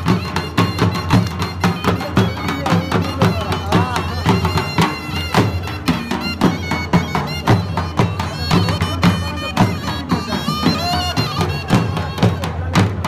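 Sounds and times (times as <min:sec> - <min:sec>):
dhol drums beating: 0:00.0 - 0:13.0
shawm playing wavering melody: 0:00.0 - 0:13.0.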